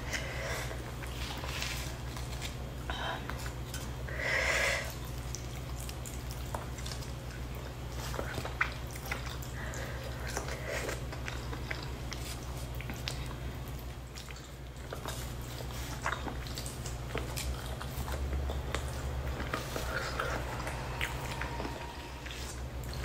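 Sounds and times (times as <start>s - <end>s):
person chewing food: 0.0s - 23.0s
steady low hum: 0.0s - 23.0s.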